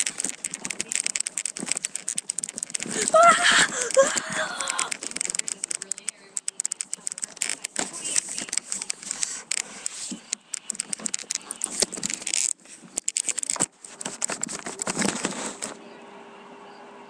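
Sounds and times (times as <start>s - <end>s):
objects clattering and rattling: 0.0s - 15.8s.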